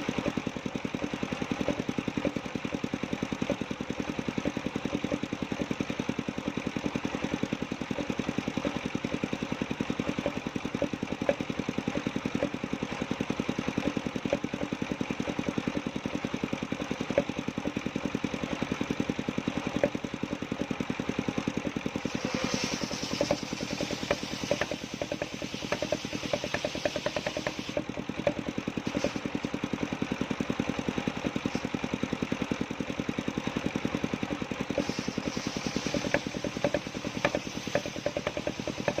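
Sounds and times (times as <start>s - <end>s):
saw blade cutting log: 0.0s - 30.0s, 30.7s - 32.1s, 34.2s - 39.0s
sawmill engine running: 0.0s - 39.0s.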